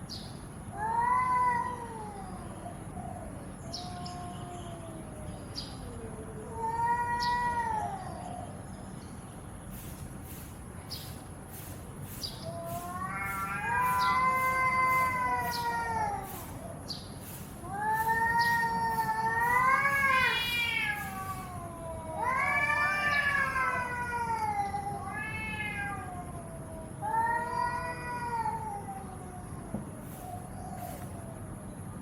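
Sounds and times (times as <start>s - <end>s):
cats yowling: 0.7s - 8.7s, 12.3s - 31.6s.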